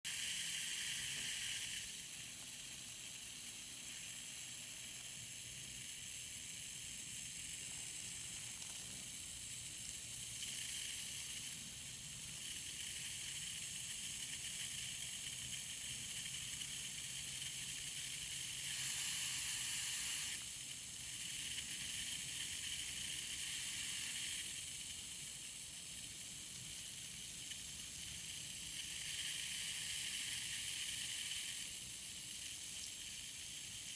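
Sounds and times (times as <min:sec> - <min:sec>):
garden hose spray hissing: 0:00.1 - 0:33.9.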